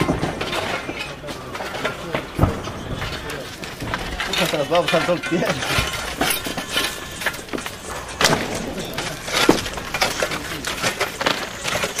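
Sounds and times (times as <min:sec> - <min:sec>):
hard material crashing and clattering: 0:00.0 - 0:12.0.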